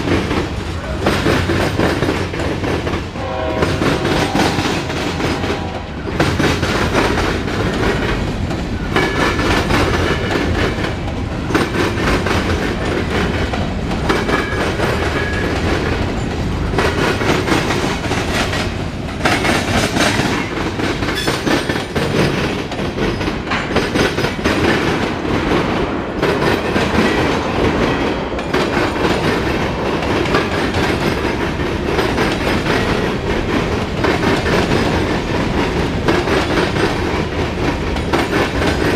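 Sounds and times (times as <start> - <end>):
train wheels rumbling on rail: 0.0 - 38.9
wheels clicking over rail joints: 3.7 - 38.9.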